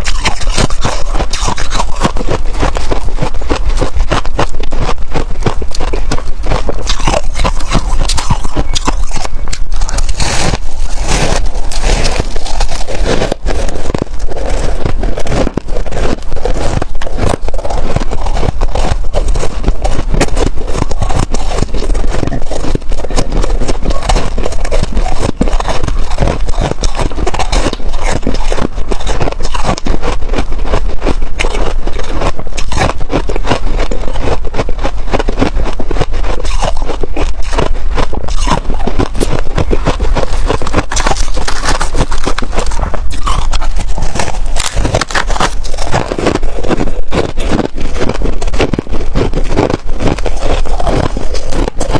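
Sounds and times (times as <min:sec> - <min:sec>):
frost crunching and scraping: 0:00.0 - 0:51.9.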